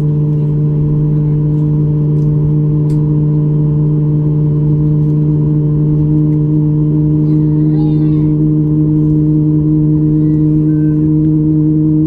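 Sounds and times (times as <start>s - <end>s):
jet engine drone in cabin: 0.0s - 12.0s.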